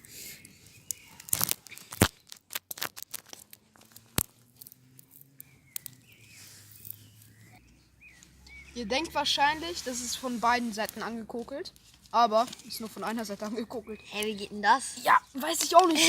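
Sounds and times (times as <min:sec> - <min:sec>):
sharp snaps and crackles: 0:00.0 - 0:08.6, 0:10.2 - 0:16.0
rustling: 0:00.0 - 0:16.0.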